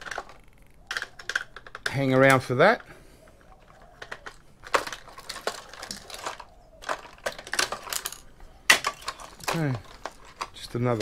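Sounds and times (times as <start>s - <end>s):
hard plastic parts clicking and rattling: 0.0s - 11.0s.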